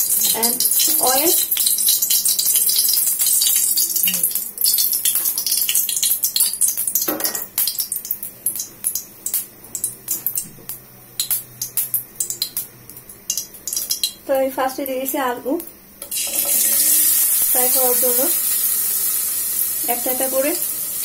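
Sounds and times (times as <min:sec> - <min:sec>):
oil crackling and popping: 0:00.0 - 0:14.2, 0:16.0 - 0:21.0.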